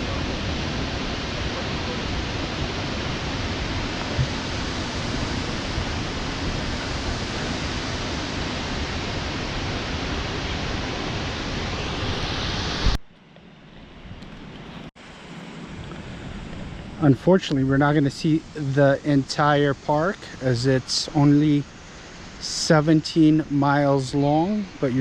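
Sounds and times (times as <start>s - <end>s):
waterfall roar: 0.0s - 13.0s, 15.3s - 25.0s.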